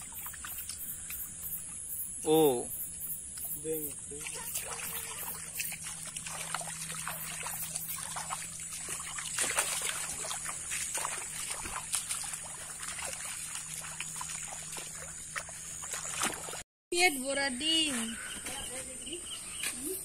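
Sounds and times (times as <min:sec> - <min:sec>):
water trickling and splashing: 0:00.0 - 0:16.6.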